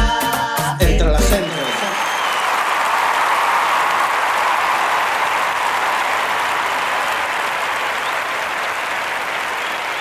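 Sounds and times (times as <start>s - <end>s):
audience applauding: 1.2s - 10.0s.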